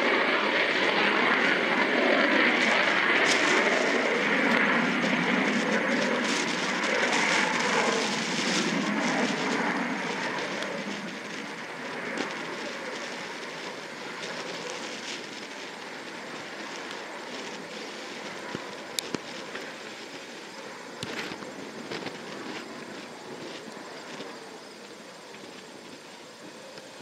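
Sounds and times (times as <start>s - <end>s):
jet engines on takeoff: 0.0s - 27.0s.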